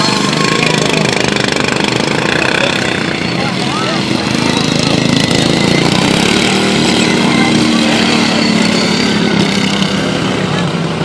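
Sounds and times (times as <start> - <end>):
racing lawn mower engines: 0.0 - 11.0.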